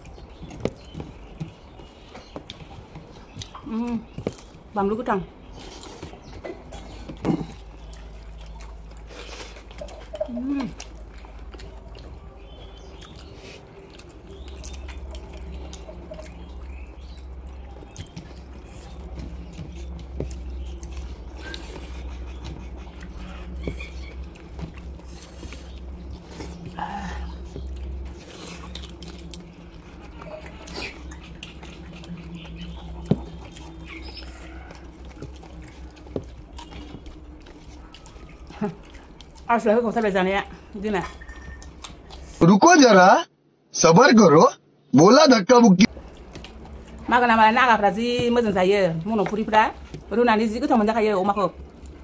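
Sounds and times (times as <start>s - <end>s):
chewing and lip-smacking: 0.0s - 4.7s, 5.3s - 42.4s, 45.9s - 52.0s
steady low hum: 0.0s - 42.4s, 45.8s - 52.0s.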